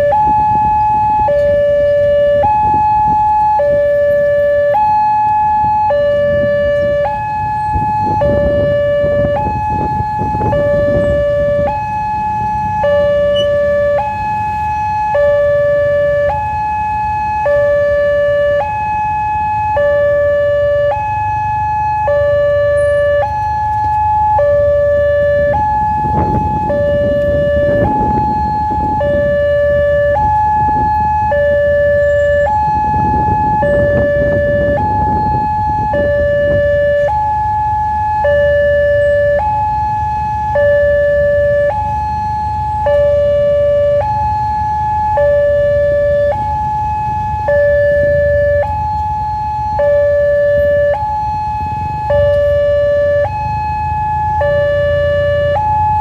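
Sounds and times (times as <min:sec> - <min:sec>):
low engine rumble: 0:00.0 - 0:56.0
two-tone crossing alarm: 0:00.0 - 0:56.0.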